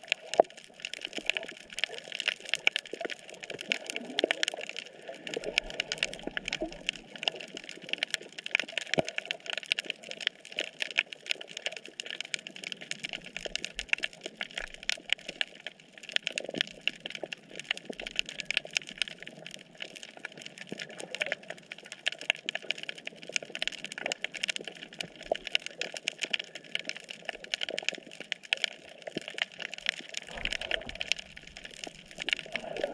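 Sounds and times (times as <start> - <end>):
snapping shrimp crackling underwater: 0.0 - 32.9.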